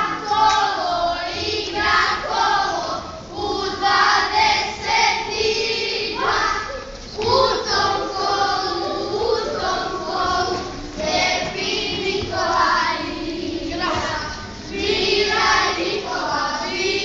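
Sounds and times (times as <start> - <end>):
young voices singing together: 0.0 - 17.0.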